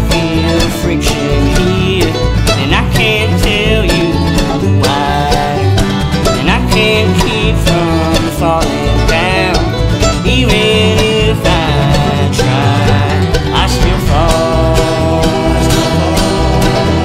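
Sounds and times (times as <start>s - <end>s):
bluegrass band playing: 0.0s - 17.0s
upright bass pulse: 0.0s - 17.0s.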